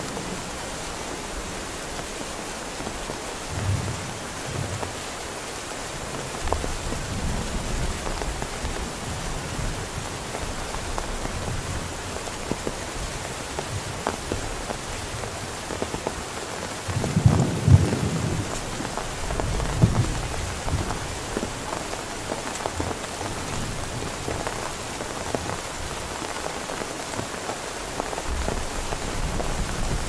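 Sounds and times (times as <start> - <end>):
heavy rain falling: 0.0 - 30.0
raindrops ticking close by: 0.0 - 30.0.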